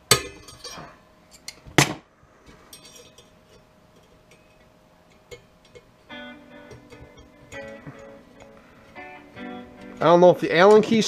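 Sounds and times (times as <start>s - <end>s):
light metal handling: 0.1s - 9.0s.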